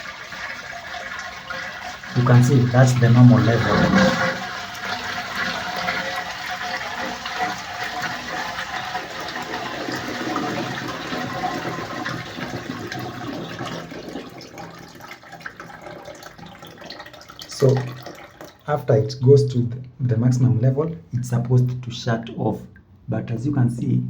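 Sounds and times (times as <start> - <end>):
toilet cistern refilling: 0.0 - 23.8.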